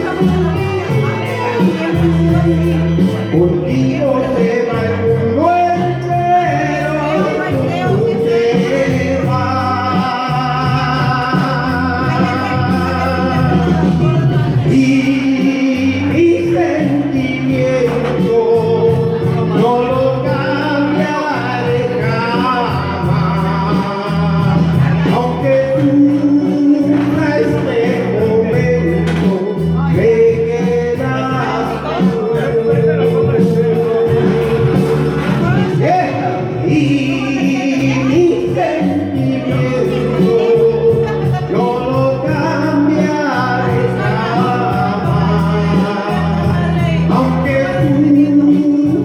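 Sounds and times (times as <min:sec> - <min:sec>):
bass and accompaniment: 0:00.0 - 0:49.0
person singing long notes: 0:00.0 - 0:49.0.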